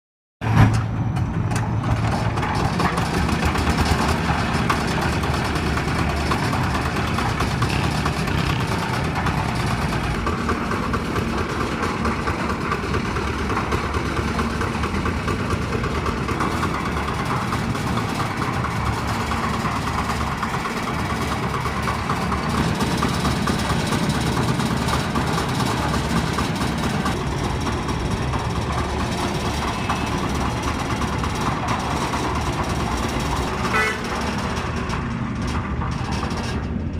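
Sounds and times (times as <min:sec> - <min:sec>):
concrete mixer diesel engine running: 0:00.4 - 0:36.9.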